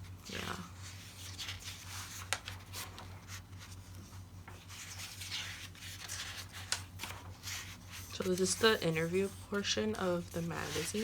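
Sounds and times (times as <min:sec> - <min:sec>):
magazine pages rustling: 0:00.3 - 0:11.0.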